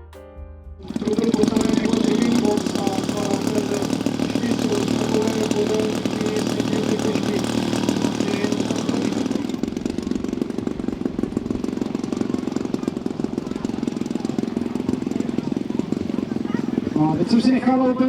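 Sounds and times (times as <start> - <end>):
model airplane engine running: 0.8 - 18.0.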